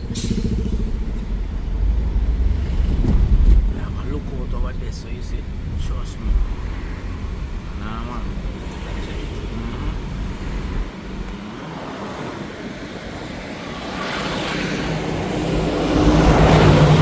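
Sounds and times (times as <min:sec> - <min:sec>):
road traffic rumble: 0:00.0 - 0:17.0
vehicle engine: 0:00.0 - 0:17.0.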